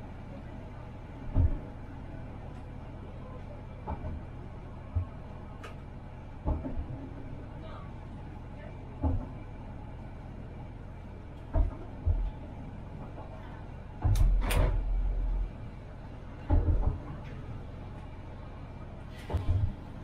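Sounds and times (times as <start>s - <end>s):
tram running hum: 0.0s - 20.0s.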